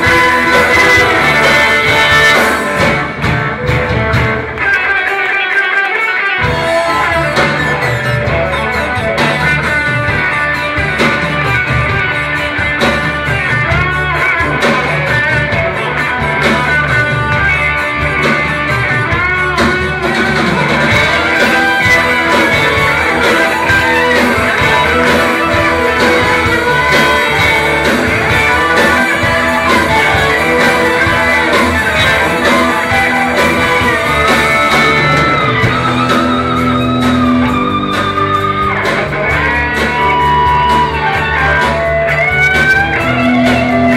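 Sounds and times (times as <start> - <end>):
steady drum beat: 0.0 - 5.5, 6.3 - 43.9
electric and acoustic guitars: 0.0 - 43.9
rock band playing live: 0.0 - 43.9
violin: 6.4 - 43.9.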